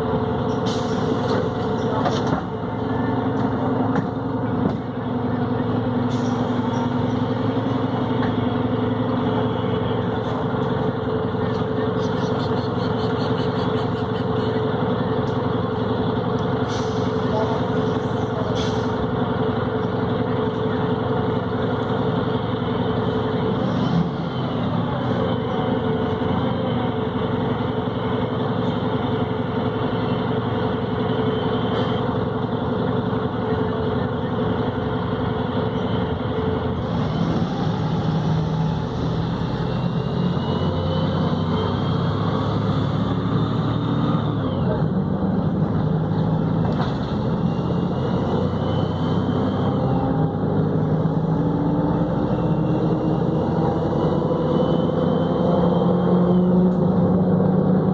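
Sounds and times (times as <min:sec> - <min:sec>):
bus diesel engine droning: 0:00.0 - 0:57.9.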